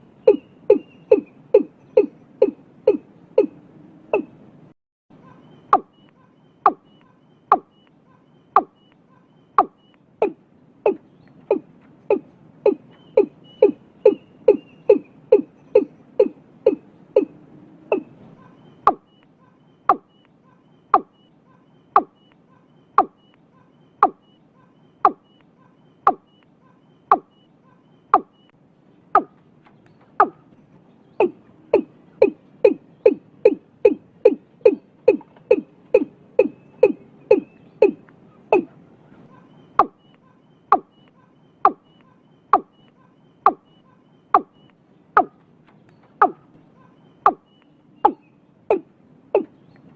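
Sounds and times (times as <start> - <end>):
bird calling short sharp notes: 0.2 - 4.4, 5.2 - 30.6, 31.2 - 49.9.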